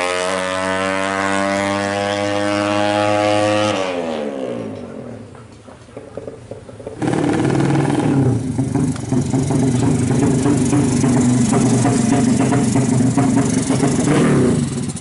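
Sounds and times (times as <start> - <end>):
racing motorcycle engine running: 0.0 - 15.0.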